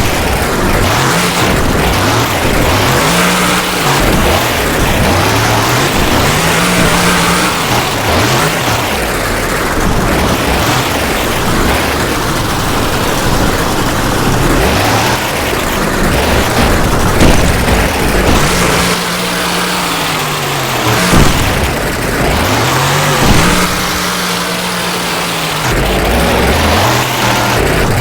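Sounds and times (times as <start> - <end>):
monster truck engine revving: 0.0 - 28.0
steady rush of noise: 0.0 - 28.0.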